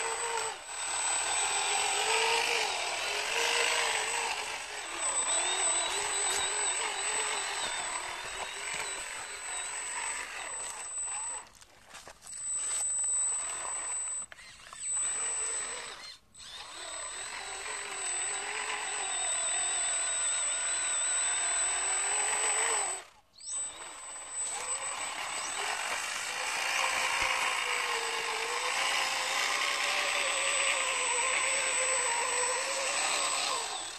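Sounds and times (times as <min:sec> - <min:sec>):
electric motors whining: 0:00.0 - 0:33.9.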